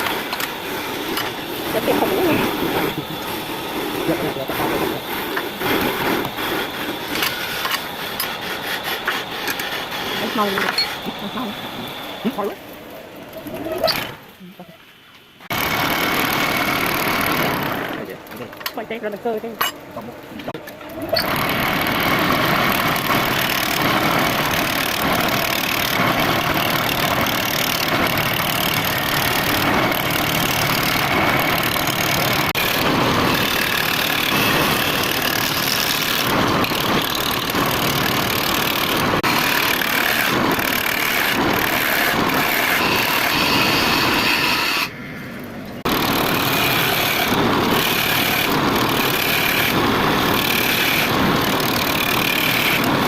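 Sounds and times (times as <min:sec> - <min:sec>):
wood lathe cutting: 0:00.0 - 0:12.4, 0:15.5 - 0:18.2, 0:20.8 - 0:44.9, 0:45.8 - 0:53.0.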